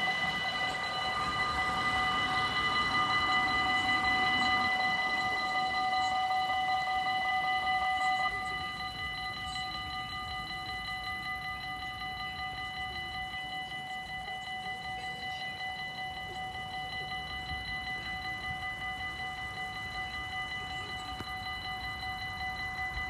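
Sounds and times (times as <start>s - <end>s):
level crossing warning bells: 0.0s - 23.0s.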